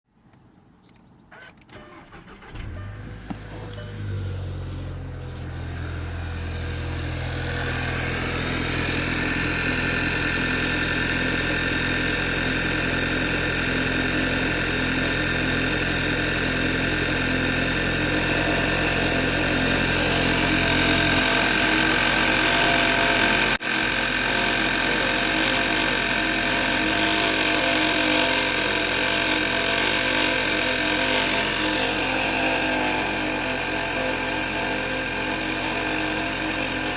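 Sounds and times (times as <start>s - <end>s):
car engine idling: 2.1s - 36.9s.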